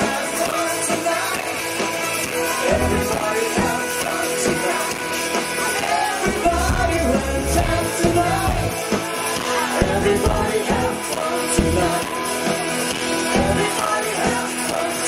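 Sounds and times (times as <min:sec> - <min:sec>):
drum kit beat: 0:00.0 - 0:15.0
electric guitar: 0:00.0 - 0:15.0
people singing into microphones: 0:00.0 - 0:15.0.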